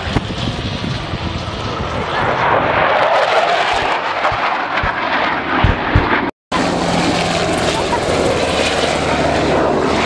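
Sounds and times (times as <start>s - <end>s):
jet aircraft roar: 0.0s - 10.0s.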